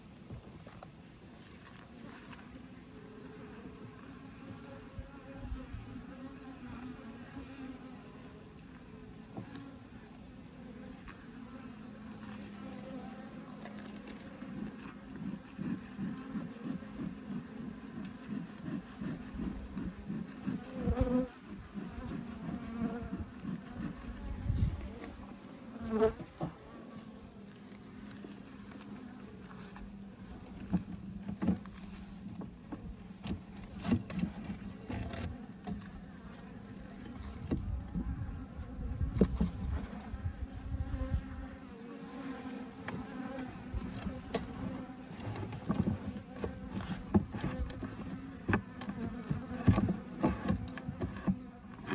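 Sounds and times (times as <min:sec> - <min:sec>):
honeybees buzzing: 0:02.0 - 0:32.2, 0:32.9 - 0:51.9.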